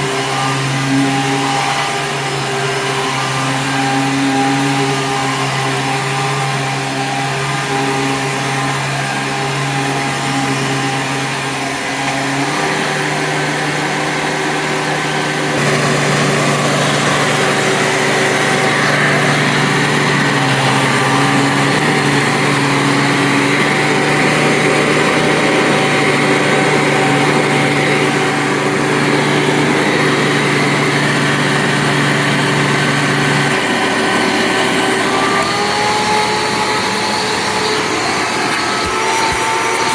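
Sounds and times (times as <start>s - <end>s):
upright vacuum motor hum: 0.0s - 39.9s.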